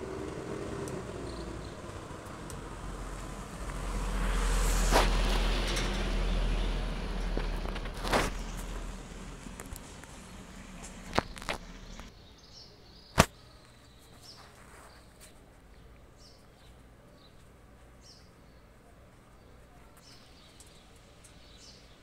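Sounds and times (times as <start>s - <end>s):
outdoor background: 0.0s - 22.0s.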